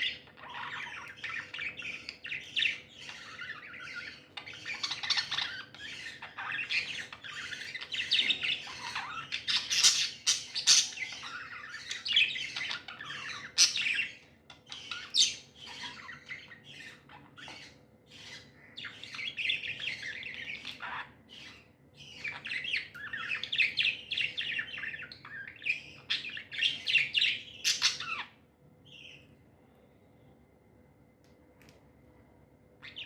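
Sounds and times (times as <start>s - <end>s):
budgerigars chattering: 0.0s - 28.4s.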